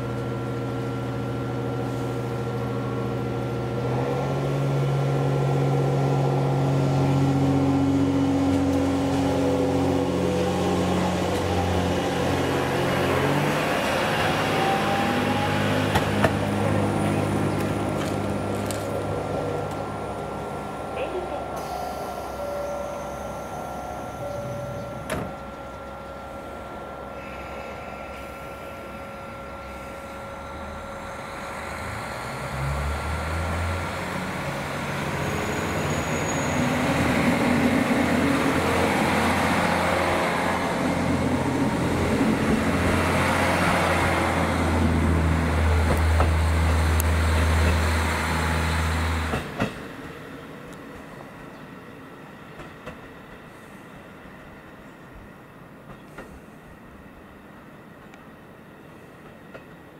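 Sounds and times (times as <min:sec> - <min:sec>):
railcar diesel engine droning: 0:00.0 - 0:59.9.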